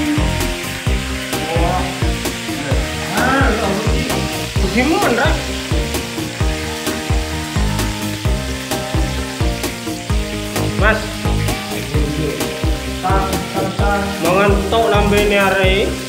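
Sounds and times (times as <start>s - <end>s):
background music with steady beat: 0.0s - 16.0s
food frying in hot oil: 0.0s - 16.0s.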